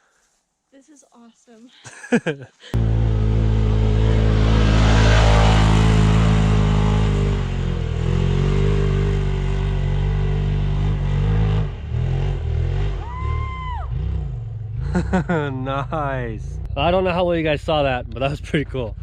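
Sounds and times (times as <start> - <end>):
off-road vehicle engine revving: 2.7 - 19.0.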